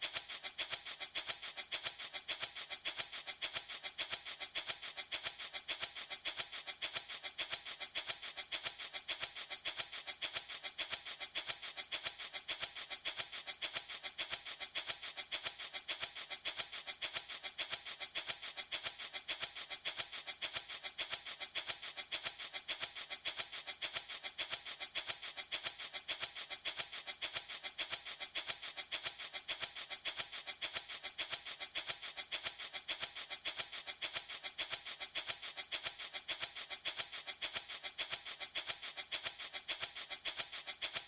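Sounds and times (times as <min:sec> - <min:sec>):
baby rattle shaking: 0:00.0 - 0:41.0.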